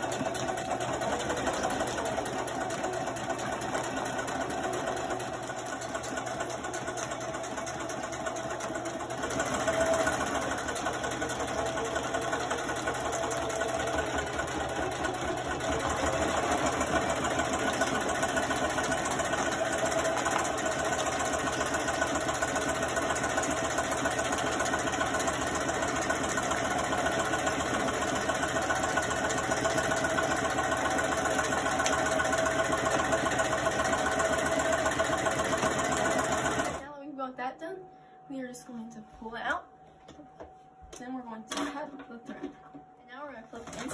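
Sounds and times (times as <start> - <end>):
sewing machine stitching: 0.0 - 36.8.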